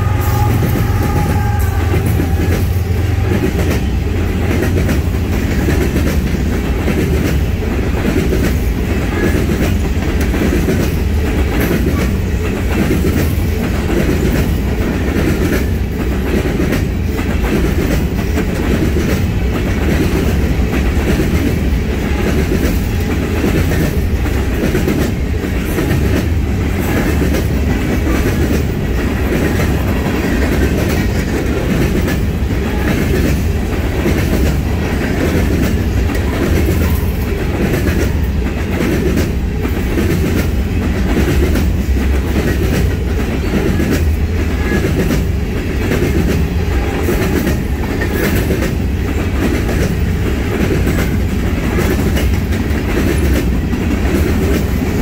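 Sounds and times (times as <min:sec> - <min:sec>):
train wheels rumbling on rail: 0:00.0 - 0:55.0
wheels clicking over track: 0:00.0 - 0:55.0.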